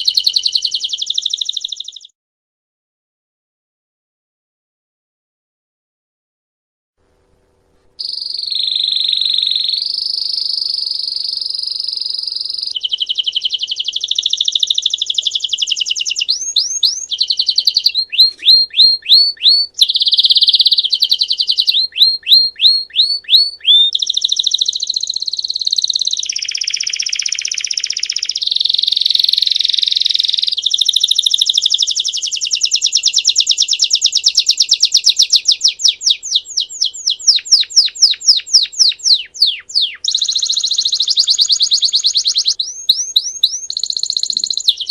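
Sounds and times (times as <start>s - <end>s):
canary singing trills: 0.0s - 2.1s, 8.0s - 44.9s.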